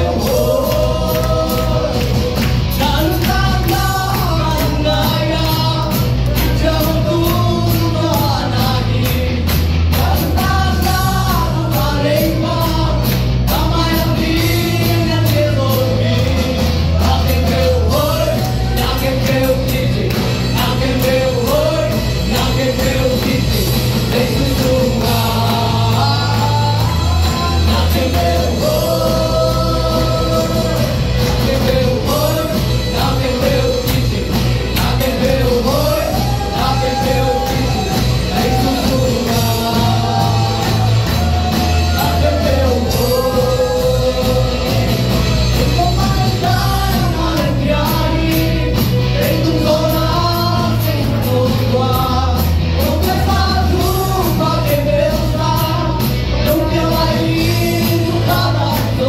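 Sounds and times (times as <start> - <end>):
bass line: 0.0 - 59.0
electric guitars: 0.0 - 59.0
men singing into microphones: 0.0 - 59.0.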